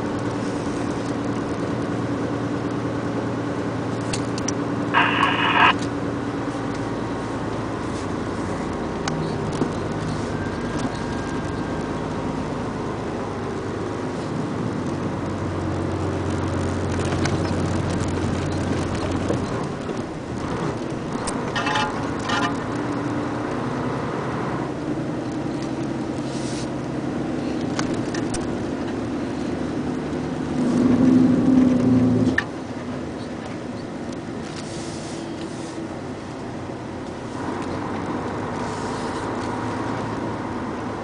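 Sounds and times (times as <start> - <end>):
road noise: 0.0 - 41.0
truck engine running: 0.0 - 41.0.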